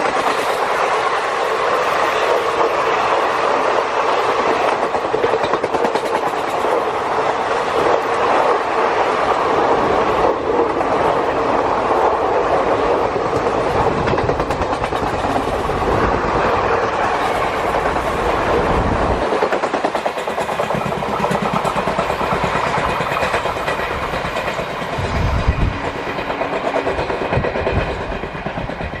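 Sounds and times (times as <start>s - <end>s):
train wheels clattering on rails: 0.0s - 29.0s.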